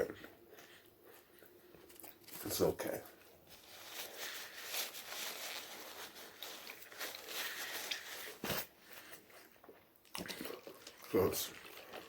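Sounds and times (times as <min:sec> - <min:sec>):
chewing and crunching food: 0:00.2 - 0:02.5, 0:03.2 - 0:12.0.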